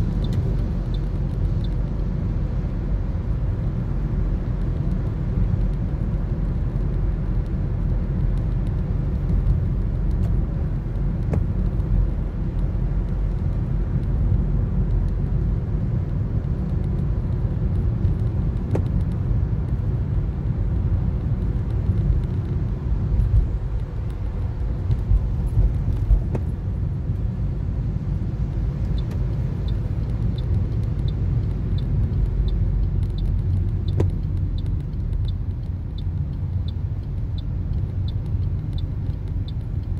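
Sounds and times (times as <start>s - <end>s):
light regular ticking: 0.0s - 39.9s
road and engine rumble: 0.0s - 39.9s.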